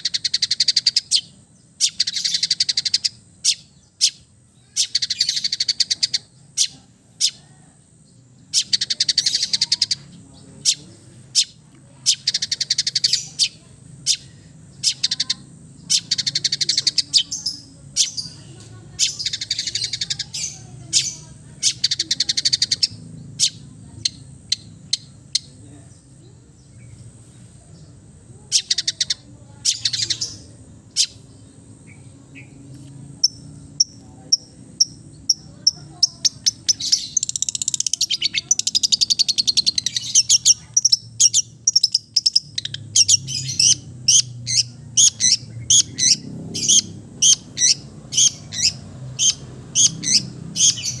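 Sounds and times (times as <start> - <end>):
shrike chattering song: 0.0 - 51.0.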